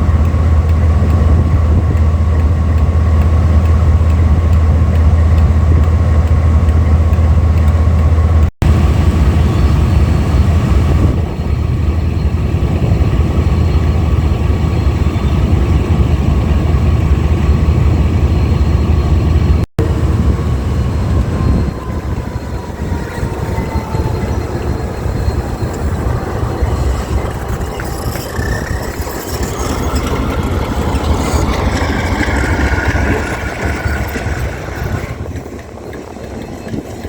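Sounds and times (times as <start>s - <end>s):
high-pitched engine whine: 0.0s - 37.0s
locomotive engine idling hum: 0.0s - 37.0s.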